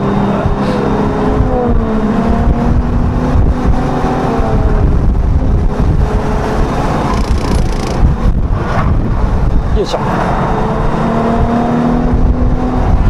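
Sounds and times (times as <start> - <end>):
car engine accelerating: 0.0 - 13.0
road and tyre rumble: 0.0 - 13.0.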